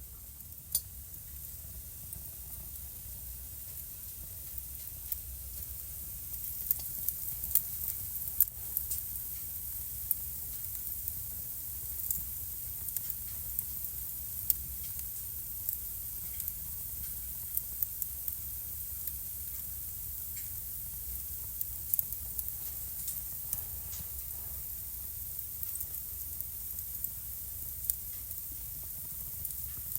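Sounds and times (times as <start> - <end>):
low rumble and hiss of fire: 0.0 - 29.9
wood fire crackling and popping: 0.0 - 29.9.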